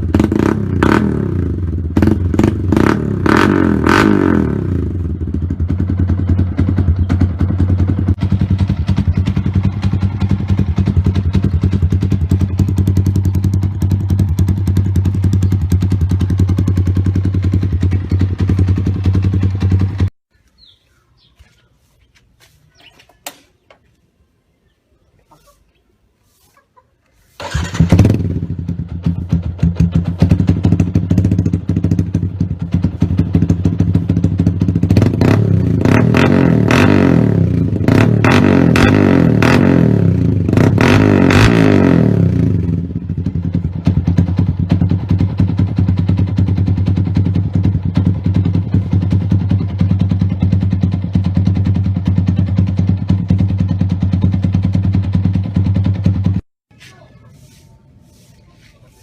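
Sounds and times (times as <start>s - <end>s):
motorcycle engine revving: 0.0s - 20.8s, 27.4s - 56.5s
motorcycle engine starting: 0.0s - 20.8s, 27.3s - 56.4s
motorcycle engine idling: 0.0s - 21.4s, 27.4s - 56.4s.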